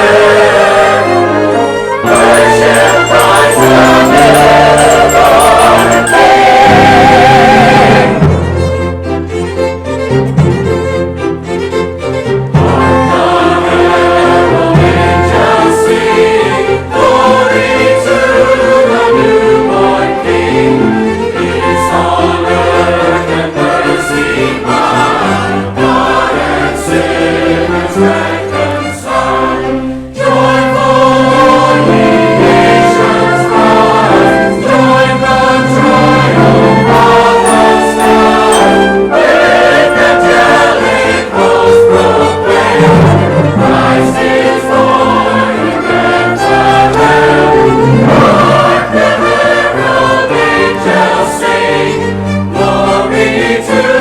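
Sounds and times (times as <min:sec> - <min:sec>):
choir singing carols: 0:00.0 - 0:10.7, 0:11.6 - 0:54.0
orchestra accompaniment: 0:00.0 - 0:54.0.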